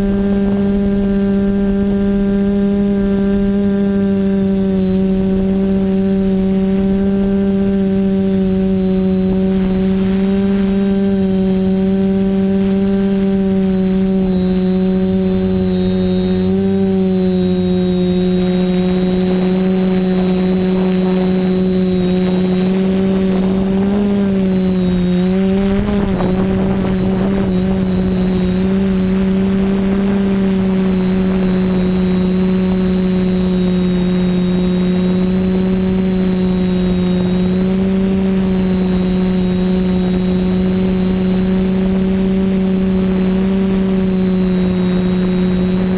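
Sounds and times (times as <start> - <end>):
quadcopter motors humming: 0.0 - 45.9.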